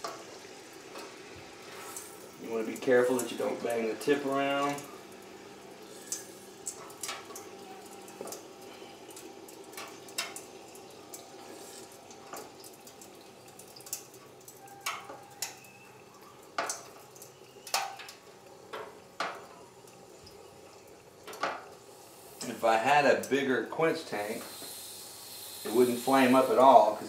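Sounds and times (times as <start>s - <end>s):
oil sizzling: 0.0s - 27.0s.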